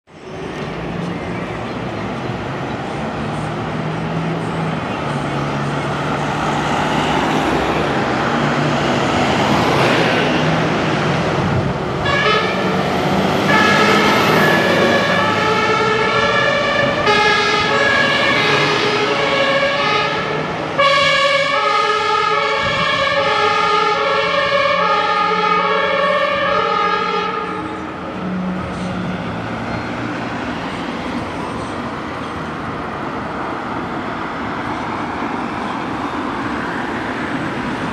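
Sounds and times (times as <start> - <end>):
road and traffic noise: 0.0 - 37.9
diesel engine: 0.1 - 37.9
two-tone sirens: 3.1 - 37.9.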